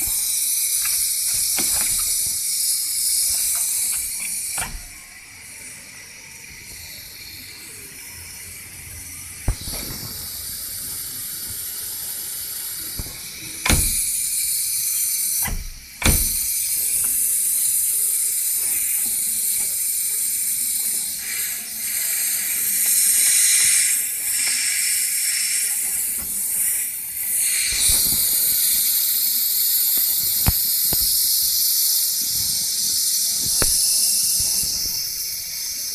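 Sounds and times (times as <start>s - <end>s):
air conditioning compressor hissing: 0.0s - 35.9s.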